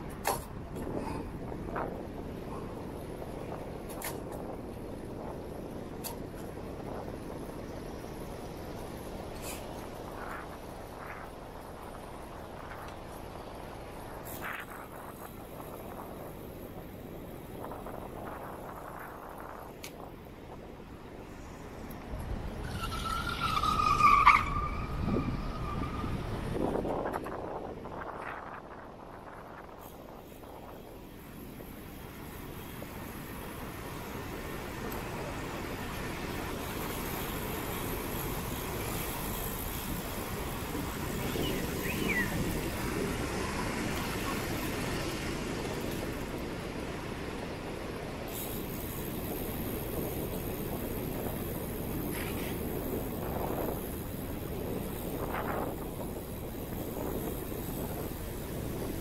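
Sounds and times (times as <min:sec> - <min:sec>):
city traffic rumble: 0:00.0 - 0:59.0.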